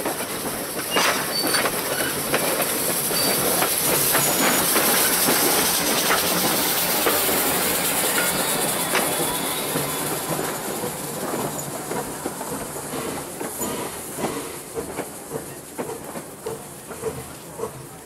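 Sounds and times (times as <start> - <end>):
steam locomotive hissing: 0.0 - 18.0
train wheels clicking over rail joints: 0.0 - 18.0.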